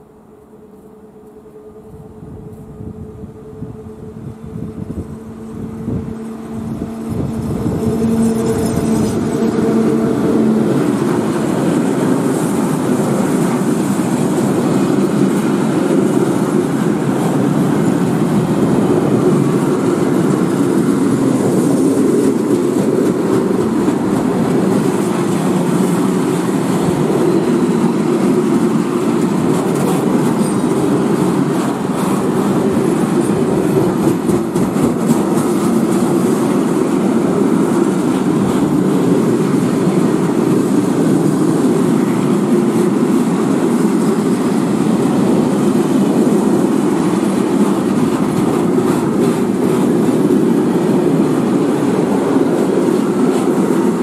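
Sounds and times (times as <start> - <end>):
freight train wheels rumbling: 0.0 - 54.0
locomotive hum: 0.0 - 54.0.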